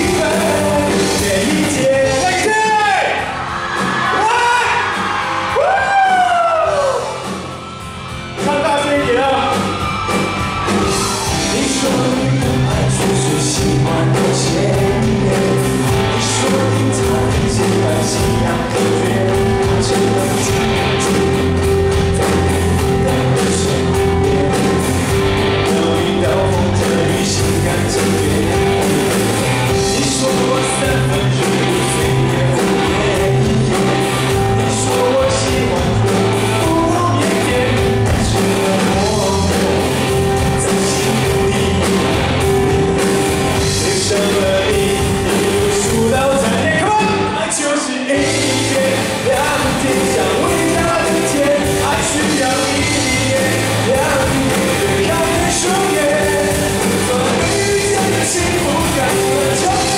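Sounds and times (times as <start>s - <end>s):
man singing pop song: 0.0s - 3.4s, 4.0s - 7.2s, 8.4s - 9.8s, 10.5s - 59.9s
steady drum beat: 0.0s - 47.4s, 48.2s - 59.9s
live band playing: 0.0s - 59.9s.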